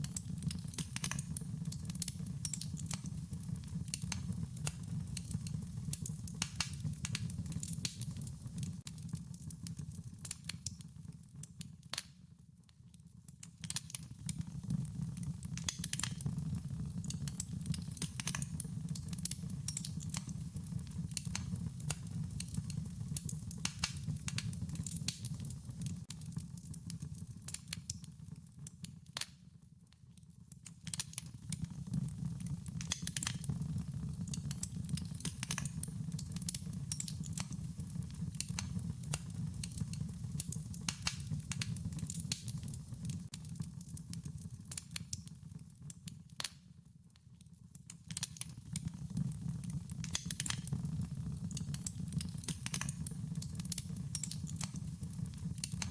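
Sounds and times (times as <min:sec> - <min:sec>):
fire crackling and popping: 0:00.0 - 0:46.8, 0:47.8 - 0:55.9.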